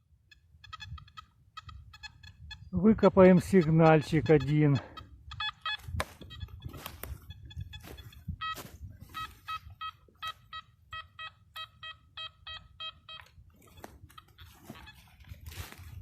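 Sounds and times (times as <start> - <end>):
metal detector beeping: 0.0 - 16.0.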